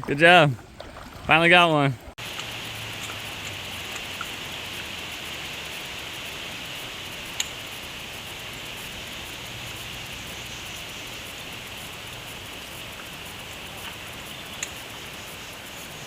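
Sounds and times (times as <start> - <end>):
river water running through shallows: 0.0 - 16.0.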